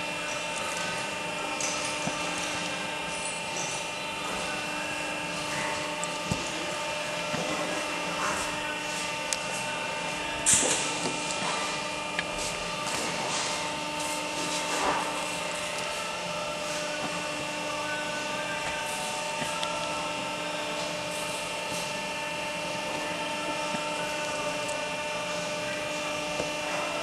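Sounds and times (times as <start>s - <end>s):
machine humming with hiss: 0.0s - 27.0s.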